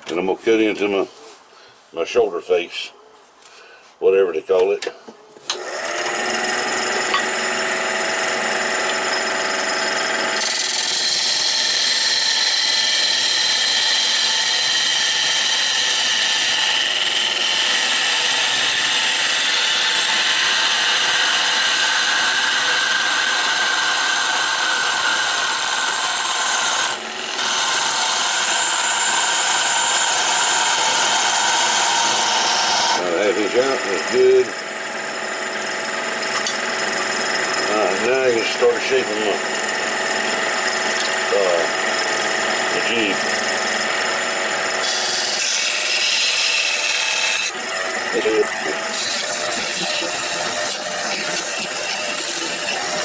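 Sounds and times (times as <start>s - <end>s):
lathe motor hum: 5.5s - 53.0s
tool scraping on wood: 5.5s - 53.0s.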